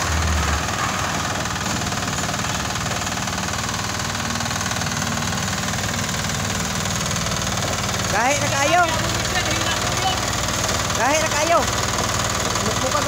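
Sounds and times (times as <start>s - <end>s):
concrete mixer engine running: 0.0s - 13.0s.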